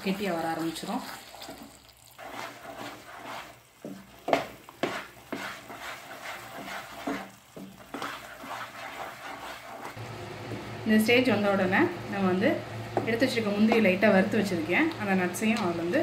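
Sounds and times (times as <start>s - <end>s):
wooden spatula scraping a pan: 0.0s - 10.0s, 12.9s - 16.0s.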